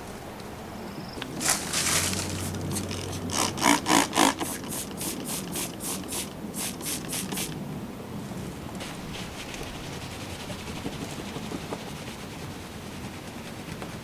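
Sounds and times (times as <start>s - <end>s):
rubbing strokes on wooden fence: 1.3s - 7.6s, 8.8s - 14.0s.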